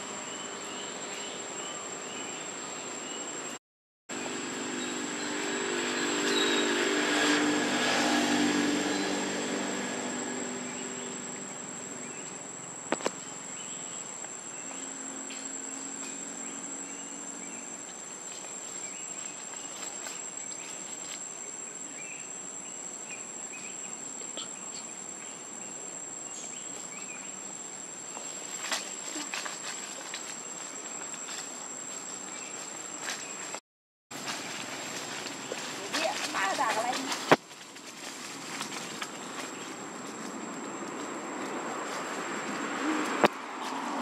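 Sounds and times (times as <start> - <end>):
high-pitched insect chorus: 0.0 - 33.6, 34.2 - 44.0.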